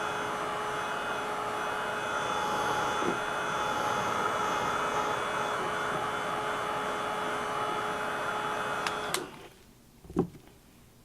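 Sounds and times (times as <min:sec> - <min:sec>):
heat tool fan whine: 0:00.0 - 0:09.6.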